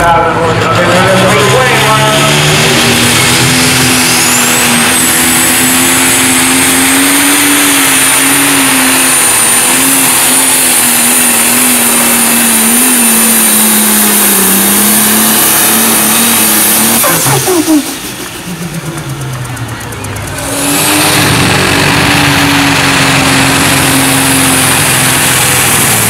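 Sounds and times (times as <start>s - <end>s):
diesel engine at full throttle: 0.0s - 26.0s.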